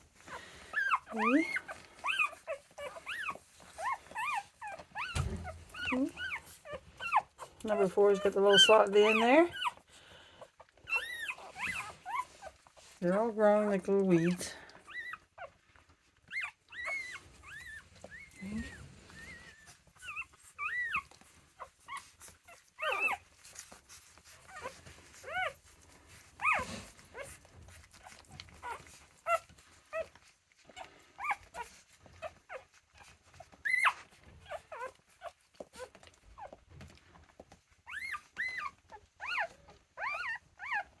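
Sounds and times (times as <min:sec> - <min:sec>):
puppies squeaking and whimpering: 0:00.0 - 0:41.0.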